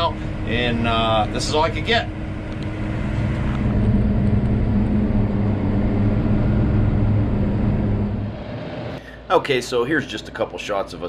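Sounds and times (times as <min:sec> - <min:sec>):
tractor diesel engine running: 0:00.0 - 0:09.0.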